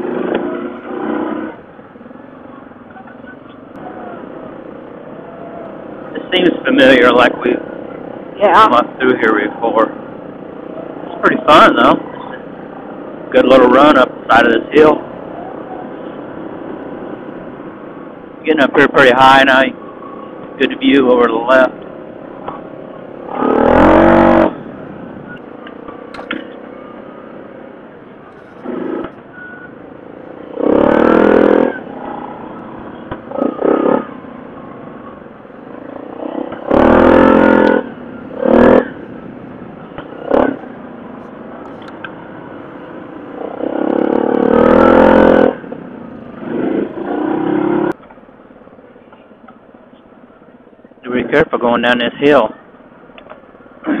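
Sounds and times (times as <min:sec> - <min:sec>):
atv engine revving uphill: 0:00.0 - 0:01.8, 0:03.7 - 0:27.8, 0:28.4 - 0:48.0.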